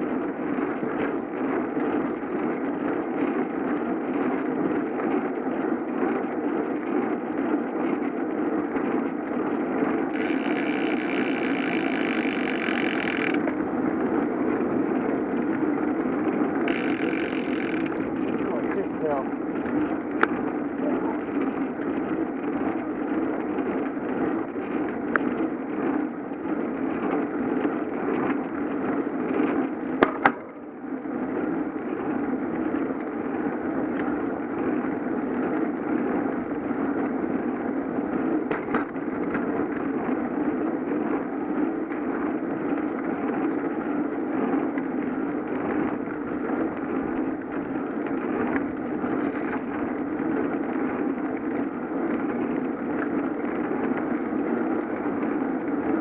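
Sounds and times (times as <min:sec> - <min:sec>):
bicycle tyres on pavement: 0:00.0 - 0:56.0
sharp bicycle clicks: 0:00.1 - 0:56.0.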